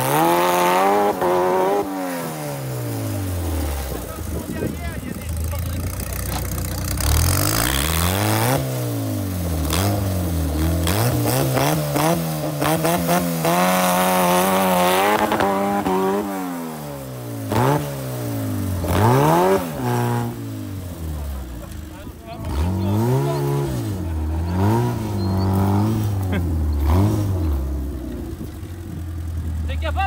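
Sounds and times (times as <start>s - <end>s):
buggy engine revving: 0.0s - 30.0s.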